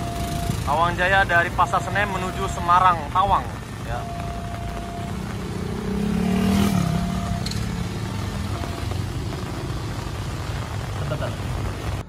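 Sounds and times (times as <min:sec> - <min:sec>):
motorcycle engine revving: 0:00.0 - 0:12.0
motorcycles passing on wet road: 0:00.0 - 0:12.0.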